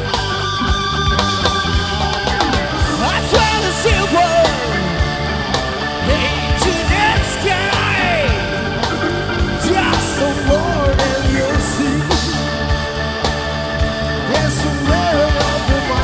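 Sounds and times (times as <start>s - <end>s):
distorted guitar chords: 0.0s - 16.0s
drums with cymbal hits: 0.0s - 16.0s
keyboard chords: 0.0s - 16.0s.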